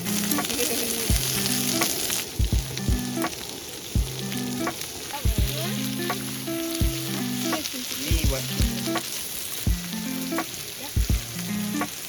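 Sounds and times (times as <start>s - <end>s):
food sizzling on grill: 0.0s - 12.0s
background music with beat: 1.1s - 3.4s, 4.0s - 9.1s, 9.7s - 12.0s.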